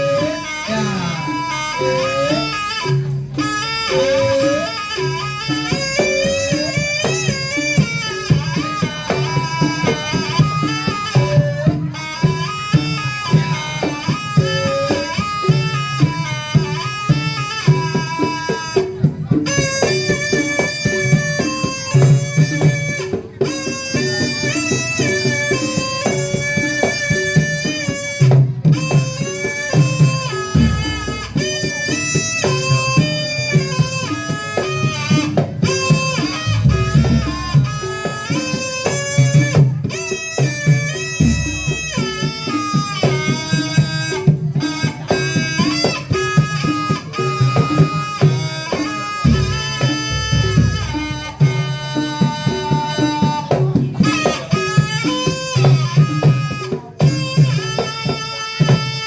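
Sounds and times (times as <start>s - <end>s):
ornamented melody line: 0.0s - 59.0s
steady drum beat: 0.0s - 59.0s.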